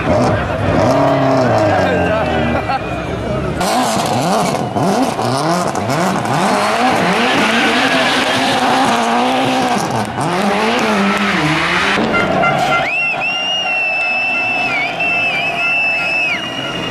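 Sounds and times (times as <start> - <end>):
rally car engine revving: 0.0 - 16.9.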